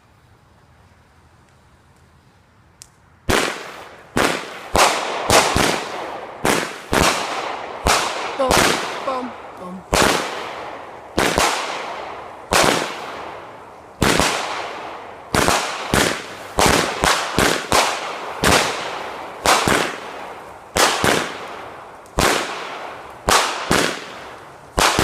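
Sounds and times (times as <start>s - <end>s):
fireworks booming: 3.3s - 25.0s.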